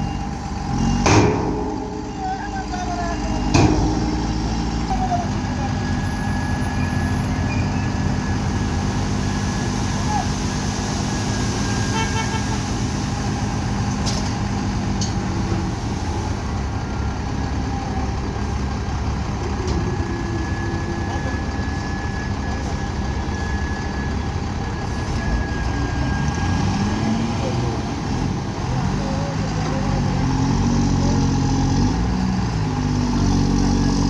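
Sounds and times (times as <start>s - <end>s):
diesel machinery rumbling: 0.0s - 34.0s.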